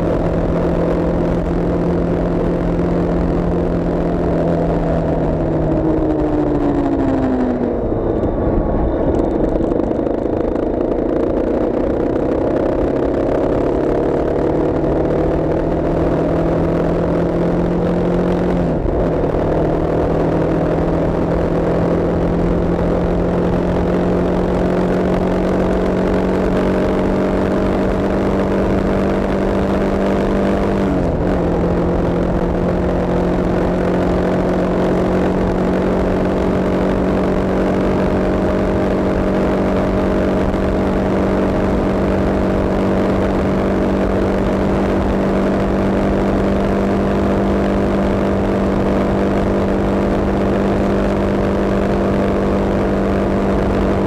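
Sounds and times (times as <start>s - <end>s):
vehicle engine accelerating: 0.0s - 54.0s.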